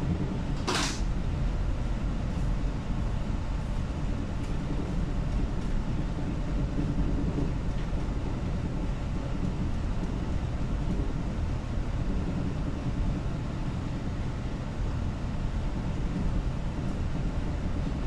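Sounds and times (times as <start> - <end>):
ship rumbling in rough sea: 0.0 - 18.0.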